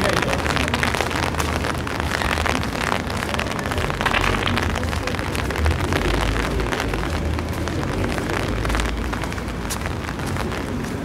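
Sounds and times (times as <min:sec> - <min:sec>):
raindrops pattering: 0:00.0 - 0:11.0.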